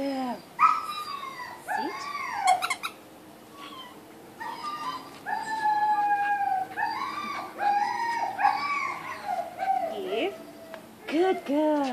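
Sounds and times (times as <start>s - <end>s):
dog whining and yelping: 0.4s - 10.9s.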